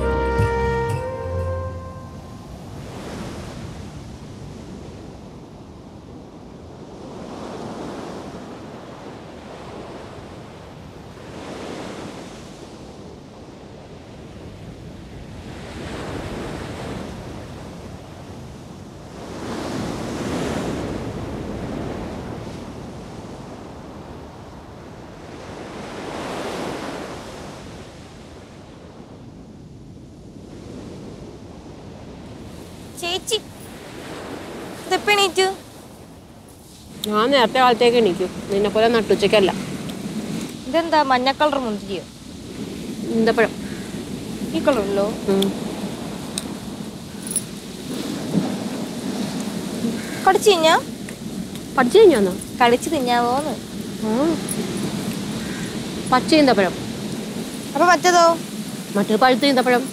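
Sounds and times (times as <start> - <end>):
waves washing in: 0.0 - 59.9
wind on microphone: 0.0 - 59.9.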